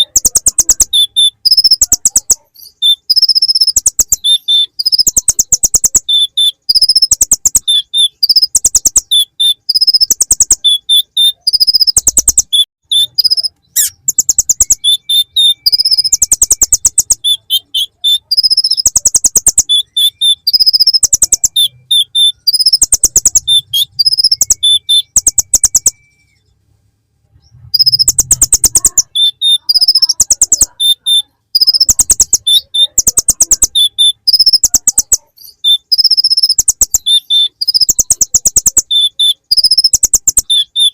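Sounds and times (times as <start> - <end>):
bird singing trilled phrases: 0.0 - 26.6, 27.3 - 40.9.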